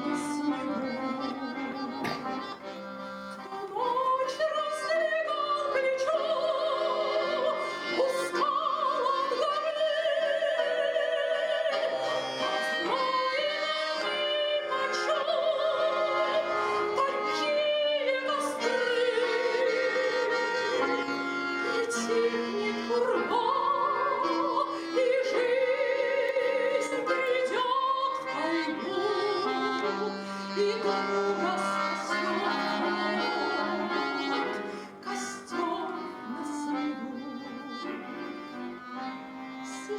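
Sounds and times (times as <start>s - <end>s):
woman singing with vibrato: 0.0s - 2.6s, 3.4s - 39.9s
instrumental accompaniment: 0.0s - 39.9s.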